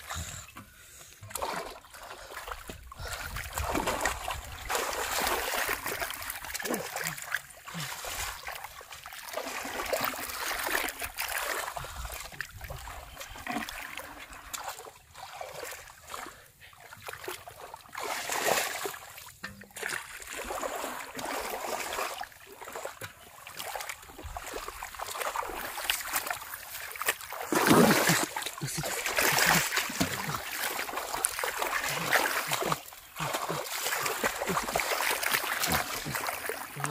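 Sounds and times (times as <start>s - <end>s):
water sloshing and splashing: 0.0s - 36.9s.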